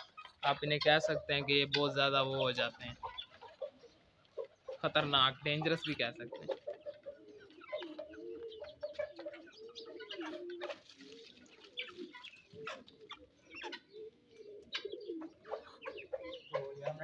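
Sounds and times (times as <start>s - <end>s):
birds cooing and clucking: 0.0s - 17.0s.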